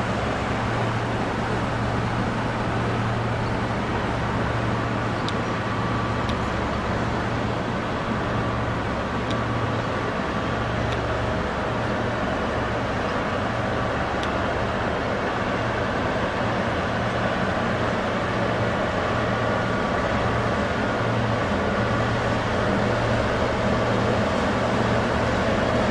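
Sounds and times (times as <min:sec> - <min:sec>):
barge engine droning: 0:00.0 - 0:25.9.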